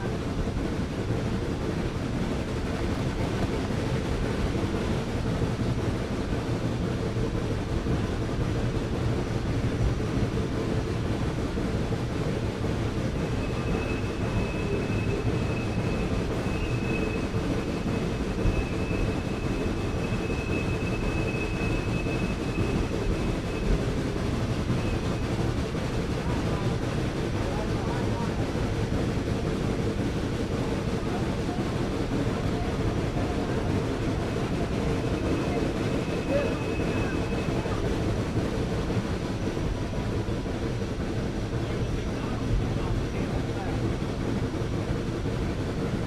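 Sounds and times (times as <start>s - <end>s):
train rumbling on tracks: 0.0s - 46.0s.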